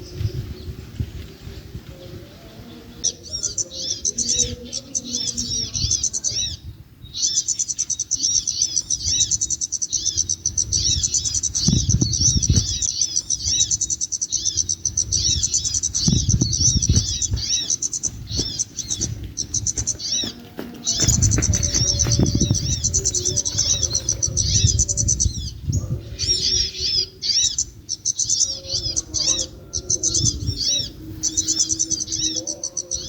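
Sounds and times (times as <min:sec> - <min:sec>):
small songbird chirping: 0:00.0 - 0:33.0.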